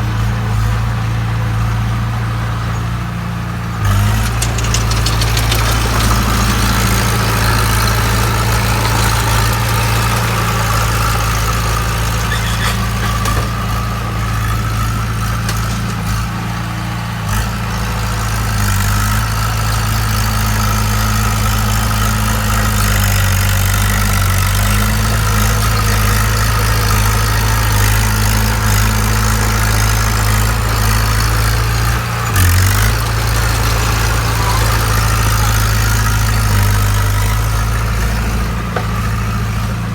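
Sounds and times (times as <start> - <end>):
bulldozer diesel engine idling: 0.0 - 39.9.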